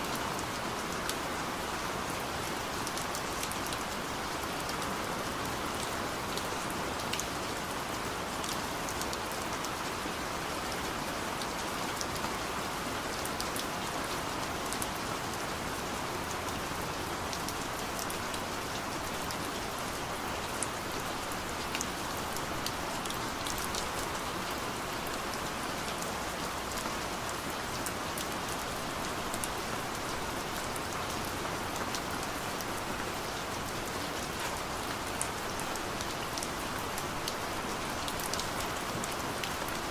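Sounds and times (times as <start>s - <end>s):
rain falling on a car: 0.0s - 39.9s.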